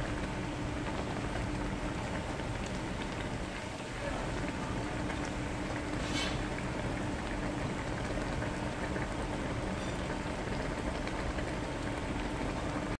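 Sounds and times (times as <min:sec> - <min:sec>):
sauce bubbling in a pot: 0:00.0 - 0:13.0.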